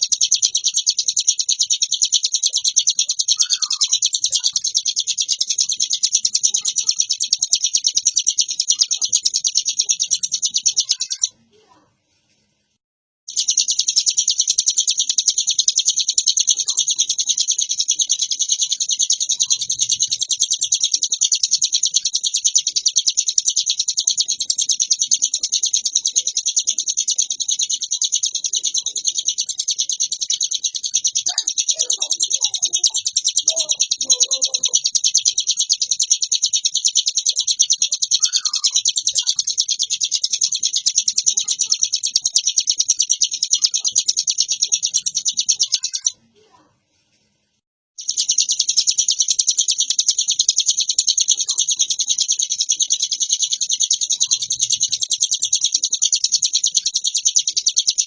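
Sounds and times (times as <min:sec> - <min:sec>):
bird chattering song: 0:00.0 - 0:11.8, 0:13.3 - 0:46.6, 0:48.0 - 0:58.0.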